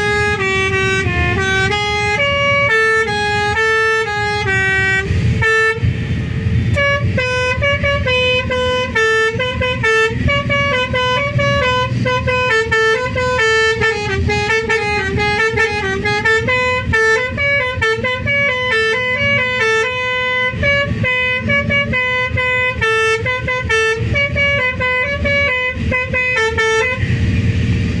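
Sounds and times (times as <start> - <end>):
multi-note air horn tune: 0.0 - 27.5
bus engine rumble: 0.0 - 28.0.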